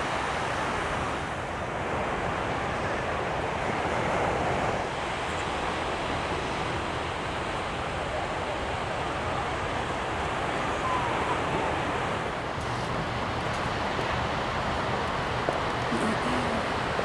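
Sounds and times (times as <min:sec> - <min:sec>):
surf washing onto beach: 0:00.0 - 0:17.0.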